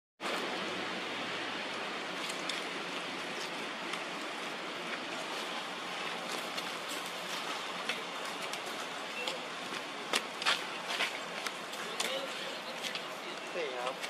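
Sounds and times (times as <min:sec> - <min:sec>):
steady rushing ambient noise: 0:00.2 - 0:14.0.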